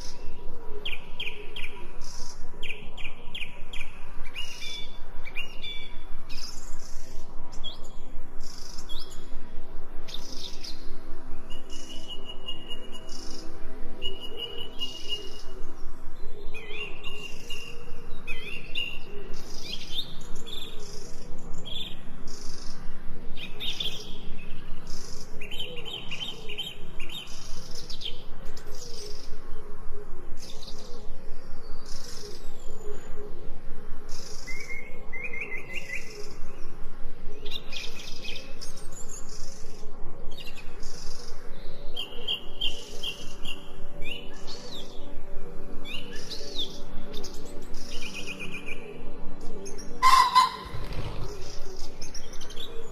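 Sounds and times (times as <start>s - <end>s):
songbirds chirping and trilling: 0.0s - 52.9s
steady low drone: 0.0s - 52.9s.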